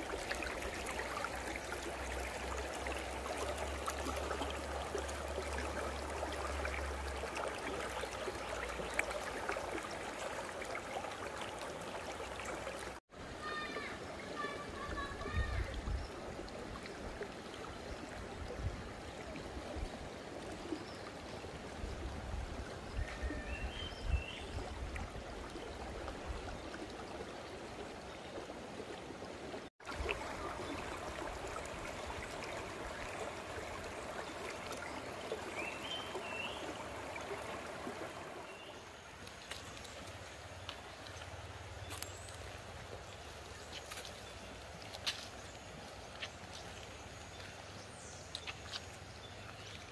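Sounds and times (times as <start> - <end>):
river water rushing over stones: 0.0 - 15.4, 24.8 - 49.9.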